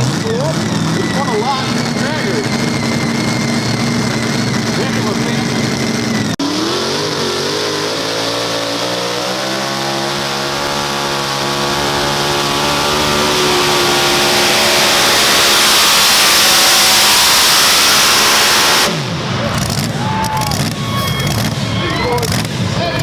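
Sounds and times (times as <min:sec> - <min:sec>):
tractor engine under heavy load: 0:00.0 - 0:23.0
rushing noise: 0:00.7 - 0:23.0.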